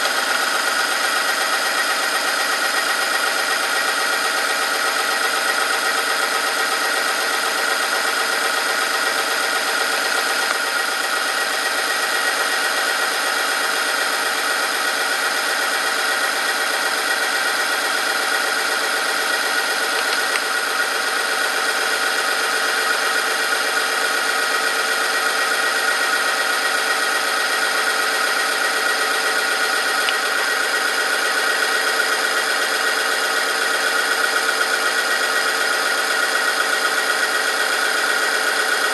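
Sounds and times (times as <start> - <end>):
machine motor high whine: 0.0 - 38.9.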